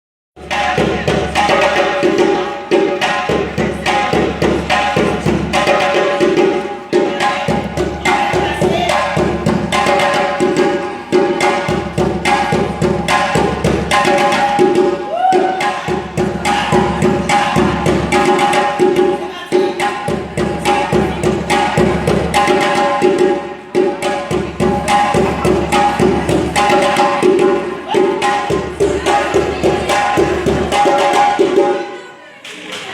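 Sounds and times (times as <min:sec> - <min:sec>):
fast percussion beat: 0:00.4 - 0:31.9.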